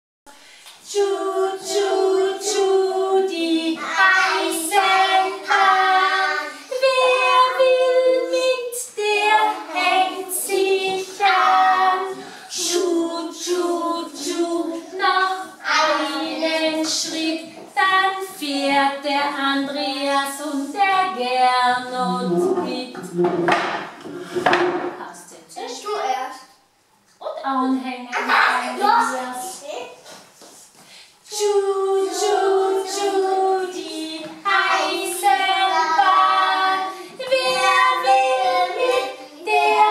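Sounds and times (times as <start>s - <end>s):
children and woman singing: 0.3s - 24.8s, 31.2s - 39.9s.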